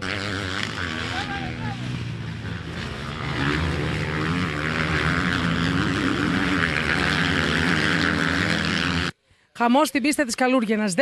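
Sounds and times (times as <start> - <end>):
motocross bike engines: 0.0 - 11.0.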